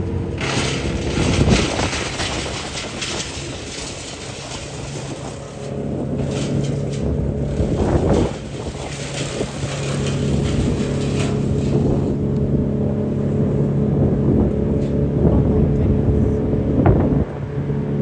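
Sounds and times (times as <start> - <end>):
motor droning: 0.0 - 18.0
wind gusting on microphone: 0.0 - 18.0.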